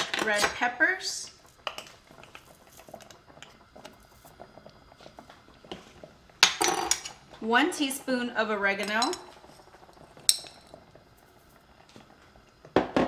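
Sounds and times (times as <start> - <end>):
sauce simmering with pops: 0.0 - 13.0.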